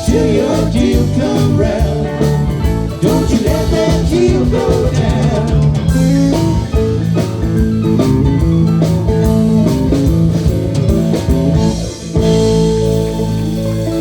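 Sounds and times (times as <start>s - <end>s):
bass: 0.0s - 14.0s
blues band playing: 0.0s - 14.0s
drum kit: 0.0s - 14.0s
guitar: 0.0s - 14.0s.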